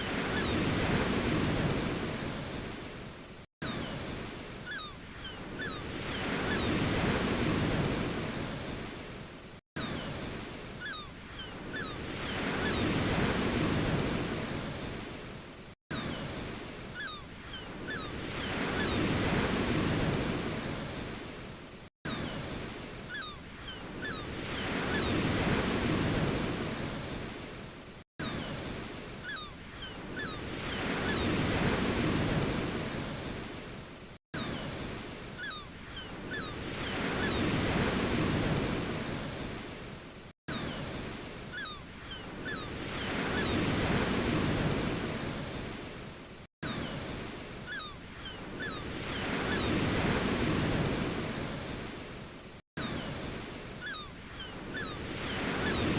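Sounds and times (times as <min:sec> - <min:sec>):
ocean waves washing in: 0:00.0 - 0:55.9.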